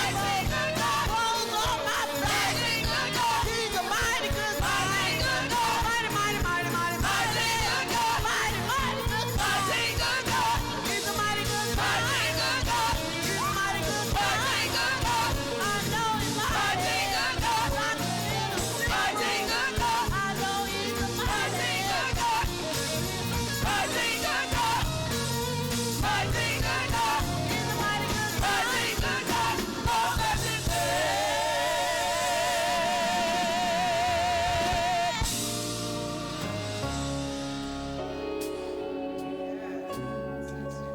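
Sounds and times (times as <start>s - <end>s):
people singing: 0.0s - 36.6s
gospel band playing: 0.0s - 40.9s.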